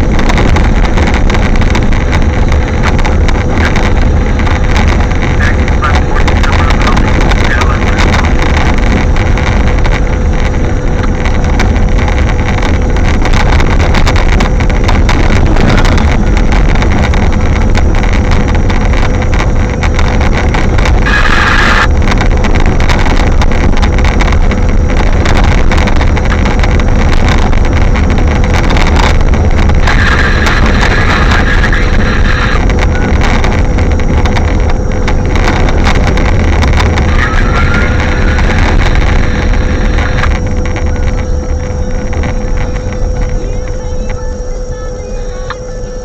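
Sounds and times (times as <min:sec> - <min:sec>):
high wind buffeting microphone: 0:00.0 - 0:46.0.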